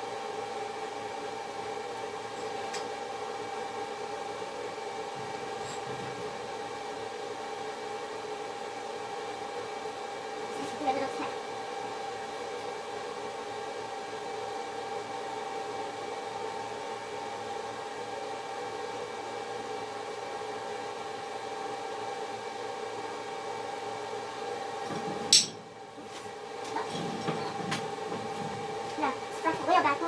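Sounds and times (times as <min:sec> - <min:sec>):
machine electrical hum: 0:00.0 - 0:30.0.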